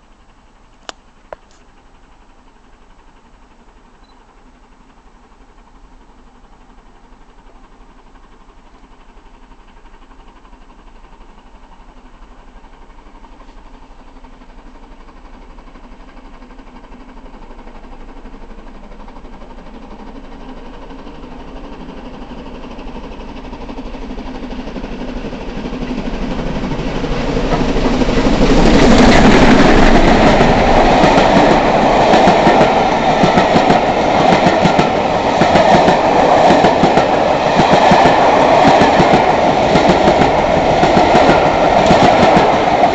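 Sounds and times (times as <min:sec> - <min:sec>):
steam locomotive passing: 0:00.0 - 0:42.9
train wheels clattering on track: 0:00.7 - 0:42.9.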